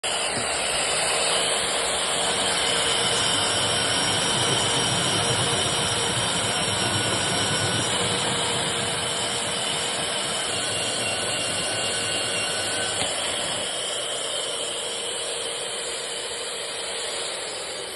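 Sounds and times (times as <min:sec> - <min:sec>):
core drilling machine running: 0:00.0 - 0:17.9.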